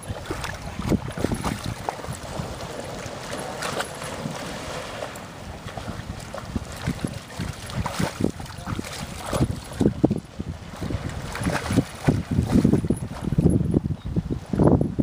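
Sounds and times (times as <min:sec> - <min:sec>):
dog splashing in water: 0:00.0 - 0:09.9, 0:11.0 - 0:13.3.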